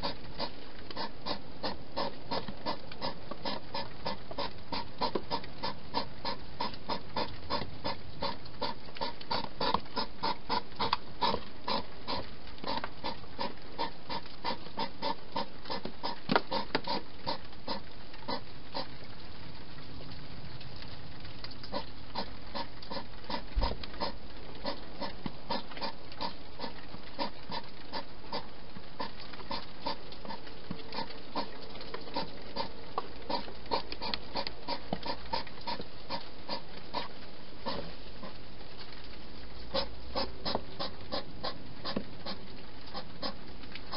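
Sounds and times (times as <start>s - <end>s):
hedgehog chewing and clicking: 0.0s - 18.9s, 20.6s - 39.1s, 39.7s - 43.9s.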